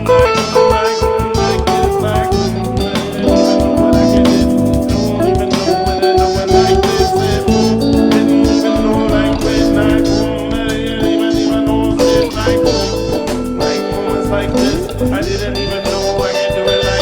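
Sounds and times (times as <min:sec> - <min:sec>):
band improvising: 0:00.0 - 0:17.0
guitar: 0:00.0 - 0:17.0
steady beat: 0:00.0 - 0:17.0.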